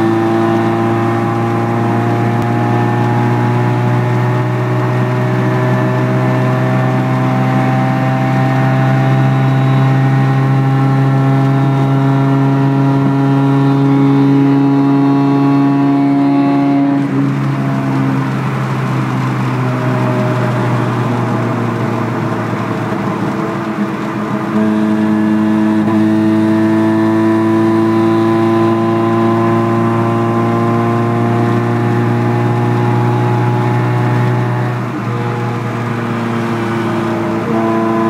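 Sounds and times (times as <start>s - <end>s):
car engine heard from inside cabin: 0.0s - 38.0s.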